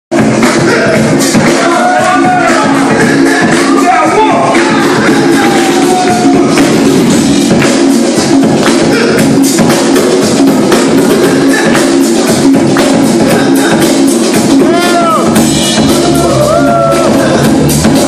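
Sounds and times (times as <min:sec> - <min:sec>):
hip-hop break music: 0:00.1 - 0:18.0.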